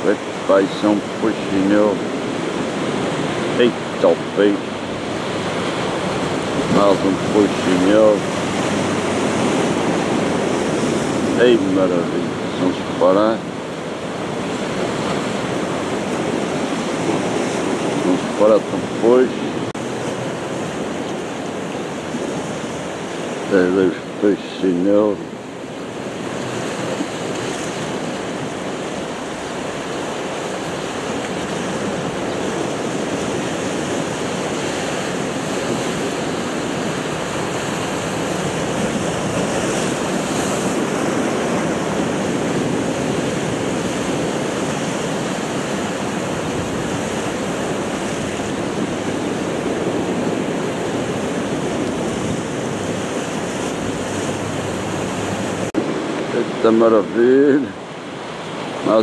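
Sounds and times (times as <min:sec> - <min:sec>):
wind buffeting microphone: 0:00.0 - 0:24.2, 0:25.2 - 0:59.0
surf washing against rocks: 0:00.0 - 0:59.0.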